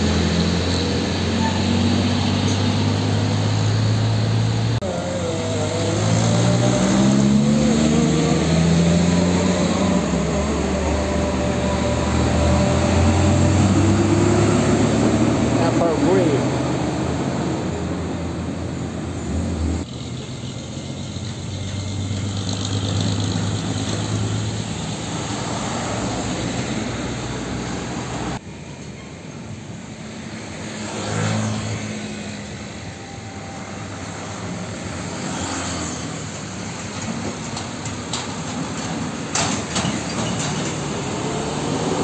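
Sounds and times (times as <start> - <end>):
diesel trucks driving past: 0.0 - 28.6, 29.4 - 42.0
tyre and road noise: 0.0 - 42.0.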